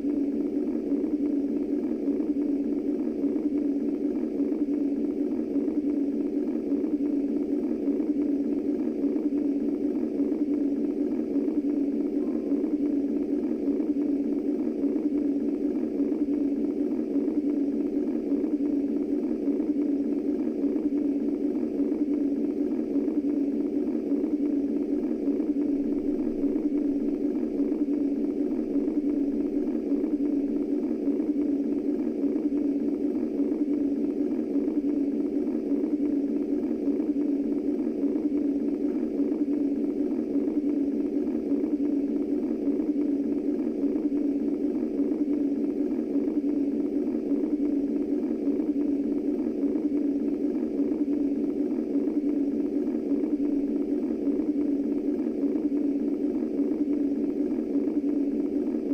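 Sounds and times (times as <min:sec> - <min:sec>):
low filtered white noise hum: 0:00.0 - 0:58.9.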